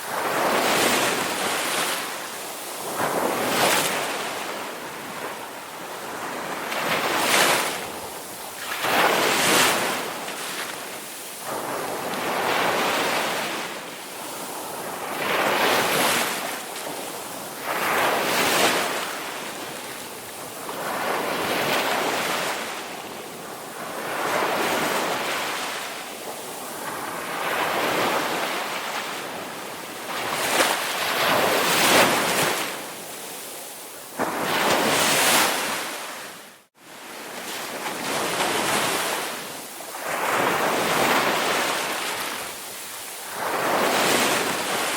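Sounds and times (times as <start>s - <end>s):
ocean waves breaking on shore: 0.0s - 44.9s.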